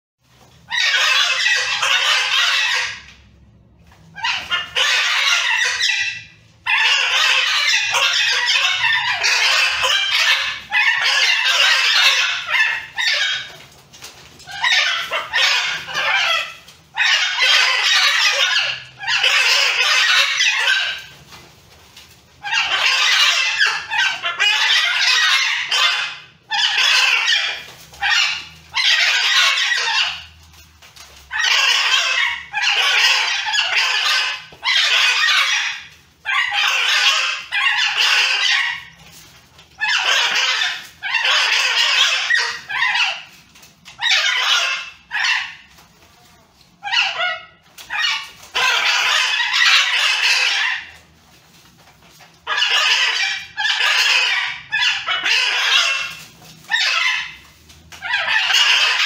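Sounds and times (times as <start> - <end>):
macaws squawking: 0.4 - 46.1, 46.8 - 59.0.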